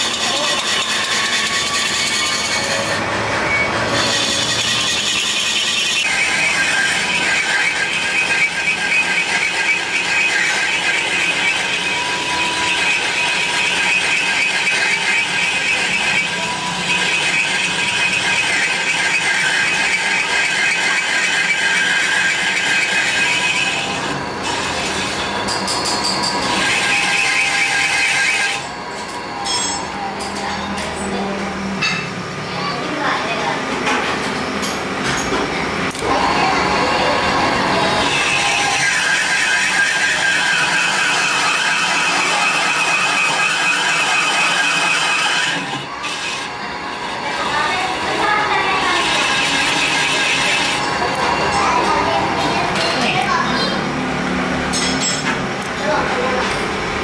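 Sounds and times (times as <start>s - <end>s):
metal lathe whirring: 0.0s - 57.0s.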